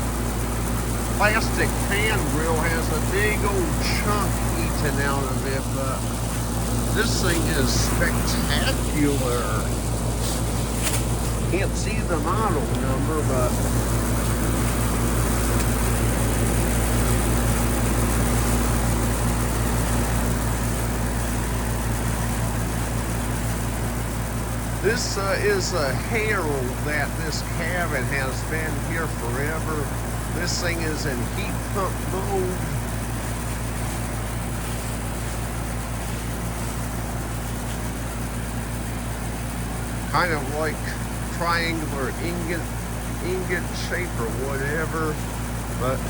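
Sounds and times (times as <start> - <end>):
fan blowing: 0.0 - 46.0
heat pump humming: 0.0 - 46.0.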